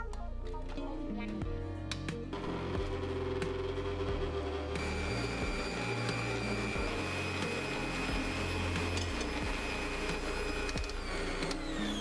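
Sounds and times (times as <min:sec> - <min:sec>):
stand mixer motor whining: 0:02.3 - 0:12.0.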